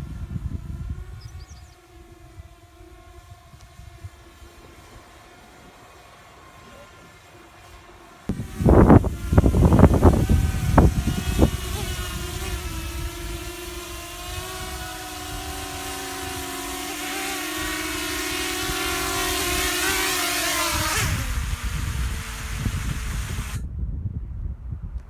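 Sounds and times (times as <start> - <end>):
wind buffeting microphone: 0.0 - 6.0, 8.3 - 25.0
drone motors humming: 0.0 - 23.6.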